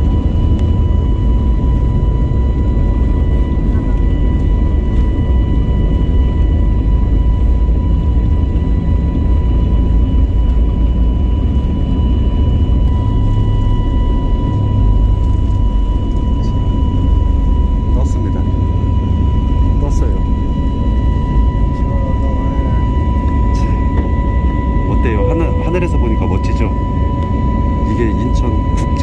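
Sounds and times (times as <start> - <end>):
high whine: 0.0 - 29.0
jet engine rumble: 0.0 - 29.0.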